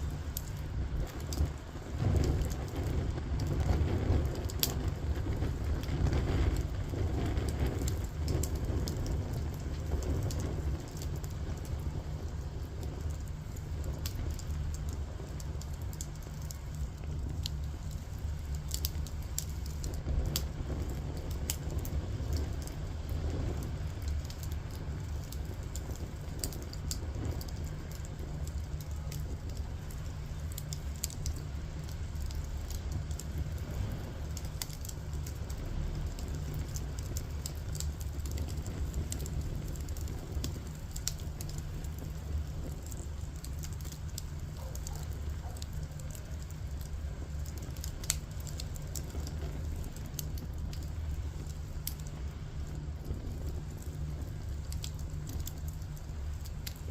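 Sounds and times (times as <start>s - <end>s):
firewood crackling and popping: 0.0s - 56.9s
flames rumbling: 0.0s - 56.9s.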